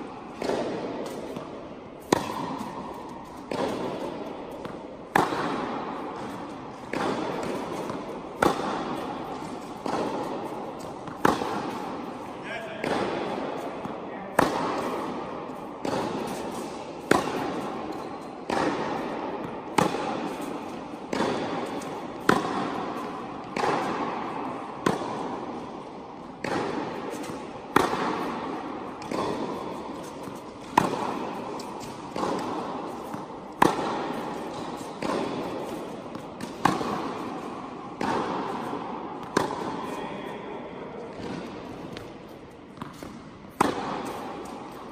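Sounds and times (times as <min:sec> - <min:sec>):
tennis ball bouncing: 0:00.2 - 0:44.9
tennis ball struck by rackets: 0:00.2 - 0:44.9.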